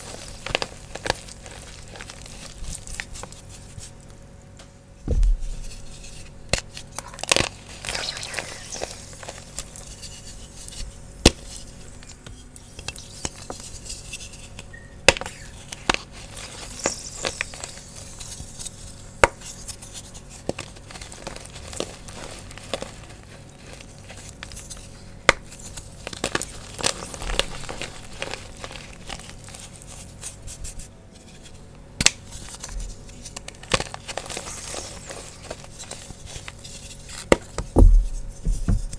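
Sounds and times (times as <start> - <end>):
chalk crunching and crumbling: 0.0 - 4.2, 5.4 - 31.6, 32.2 - 38.9.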